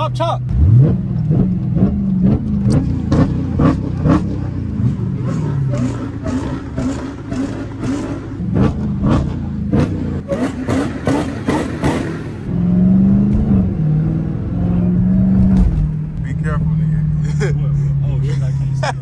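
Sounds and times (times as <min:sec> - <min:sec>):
car engine under throttle: 0:00.0 - 0:19.0.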